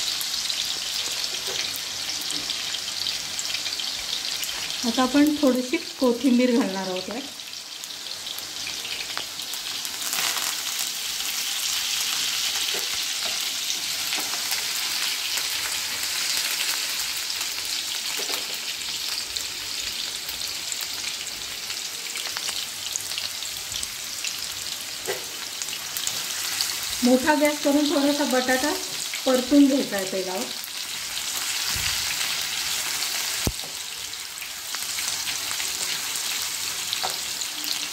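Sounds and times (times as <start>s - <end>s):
potatoes sizzling in hot oil: 0.0s - 37.9s.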